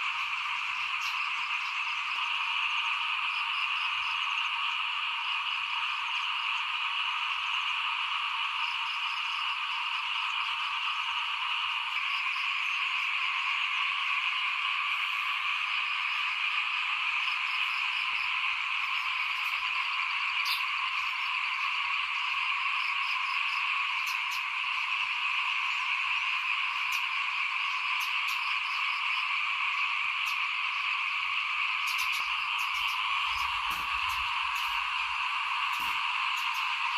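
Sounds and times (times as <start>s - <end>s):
chorus of frogs calling: 0.0s - 36.9s.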